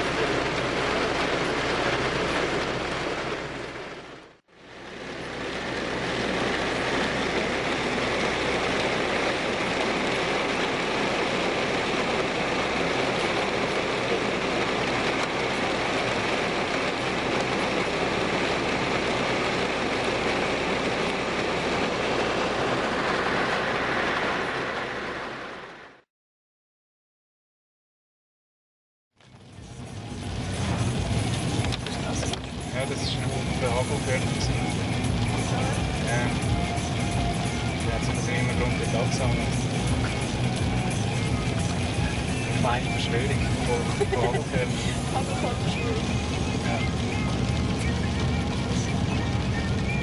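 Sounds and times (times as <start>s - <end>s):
heavy rain hiss: 0.0s - 26.0s, 29.6s - 50.0s.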